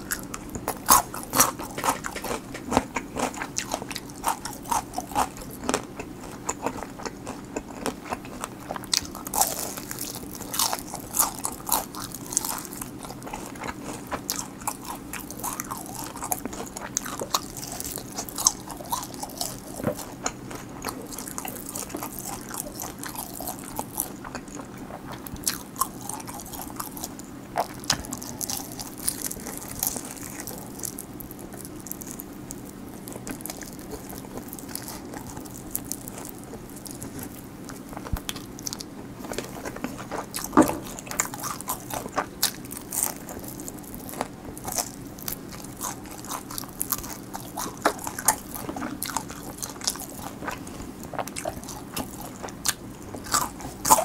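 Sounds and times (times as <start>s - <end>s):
chewing crispy fried chicken: 0.0s - 54.0s.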